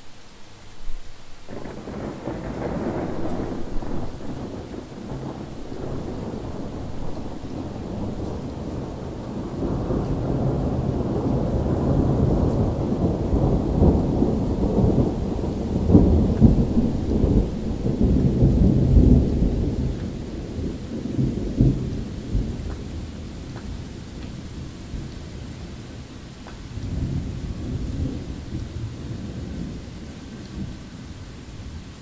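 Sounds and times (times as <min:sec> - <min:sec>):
steady rain: 0:00.0 - 0:32.0
rolling thunder: 0:01.4 - 0:25.7, 0:26.7 - 0:30.9.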